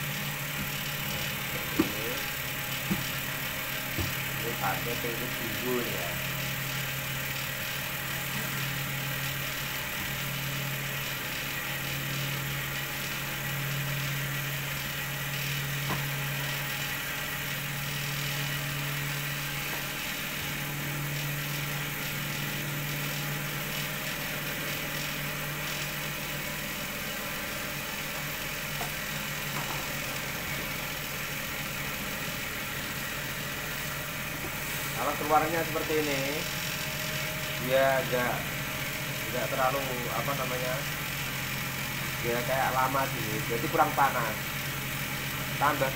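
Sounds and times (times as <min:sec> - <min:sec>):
cotton candy machine humming: 0:00.0 - 0:45.9.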